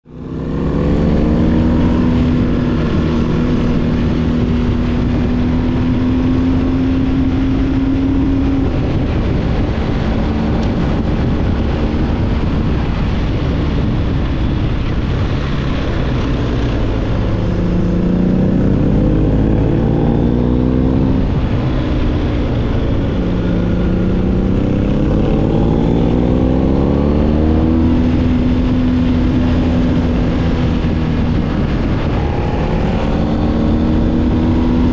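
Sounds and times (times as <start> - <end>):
motorcycle engine at road speed: 0.0 - 34.9
wind rushing over microphone: 0.0 - 34.9.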